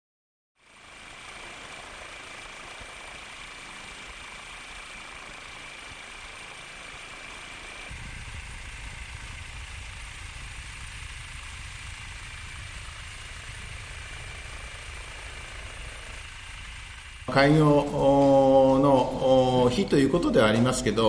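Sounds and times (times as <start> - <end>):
helicopter engine drone: 0.6 - 21.0
high-pitched whine: 0.6 - 21.0.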